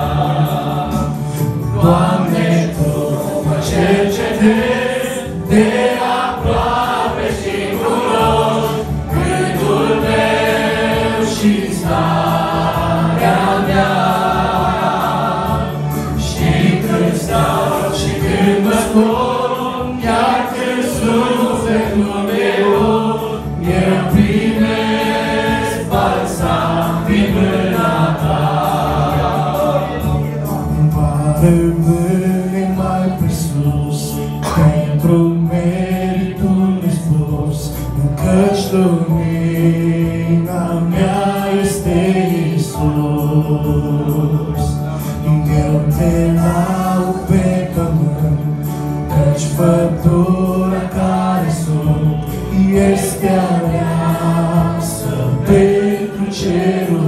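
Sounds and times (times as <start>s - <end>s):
vocal group singing worship song: 0.0s - 57.0s.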